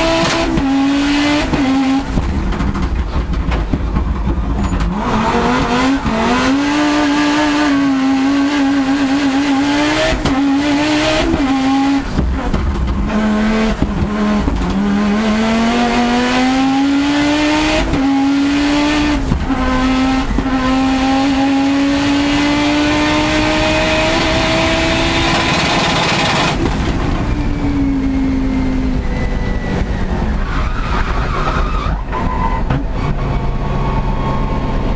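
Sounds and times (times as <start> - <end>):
rally car engine accelerating: 0.0 - 34.9.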